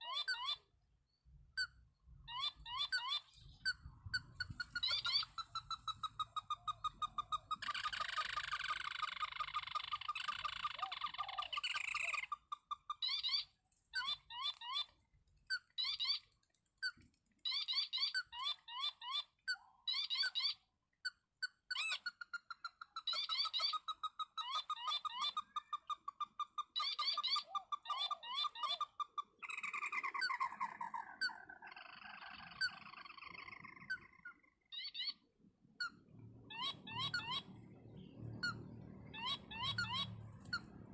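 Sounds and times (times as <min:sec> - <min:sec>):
crake calls: 0:01.6 - 0:20.6, 0:21.8 - 0:40.9.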